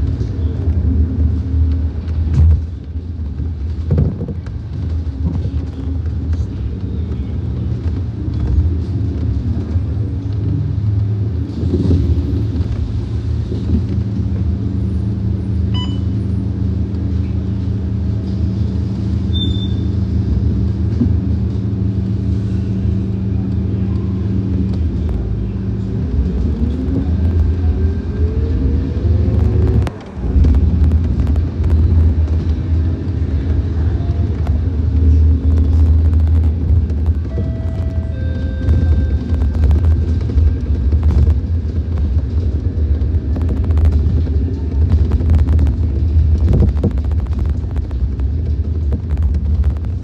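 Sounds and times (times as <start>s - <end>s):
bus diesel engine rumbling: 0.0s - 50.0s.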